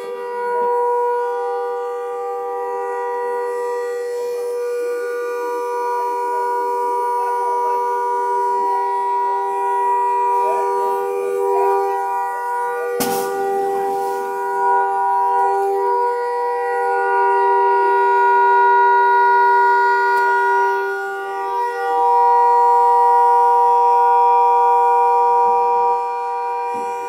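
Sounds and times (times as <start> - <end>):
car horn sounding continuously: 0.0 - 27.0.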